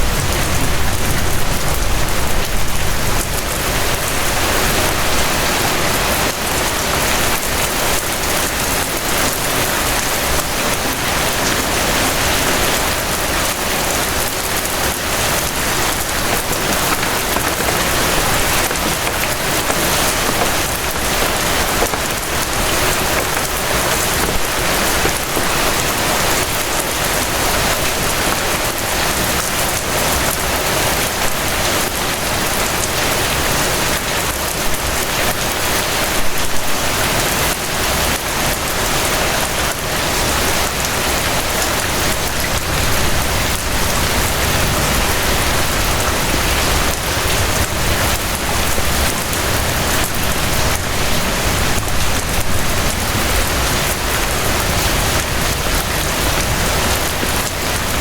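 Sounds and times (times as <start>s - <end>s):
patter of raindrops: 0.0s - 58.0s
steady rain hiss: 0.0s - 58.0s.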